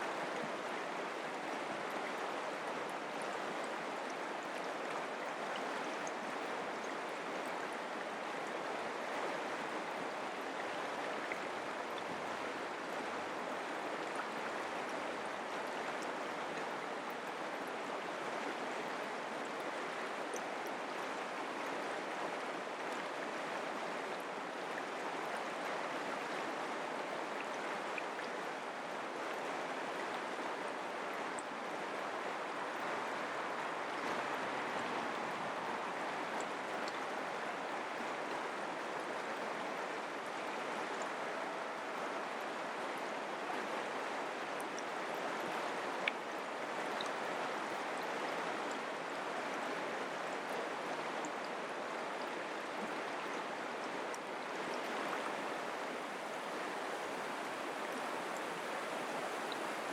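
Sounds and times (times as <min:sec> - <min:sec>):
creek babbling: 0:00.0 - 0:59.9.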